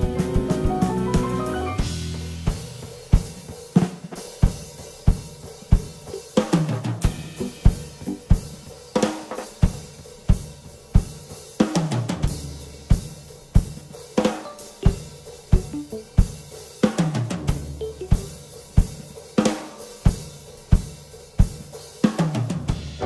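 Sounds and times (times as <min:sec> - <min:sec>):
cymbals and hi-hat: 0:00.0 - 0:23.0
kick and snare drum strokes: 0:00.0 - 0:23.0.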